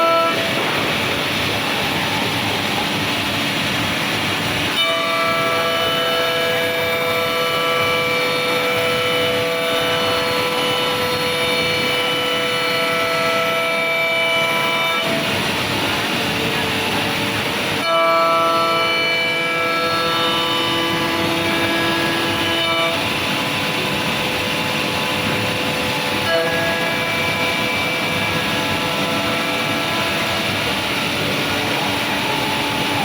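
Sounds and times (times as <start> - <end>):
machining noise: 0.0 - 33.0
spindle whine: 0.0 - 33.0.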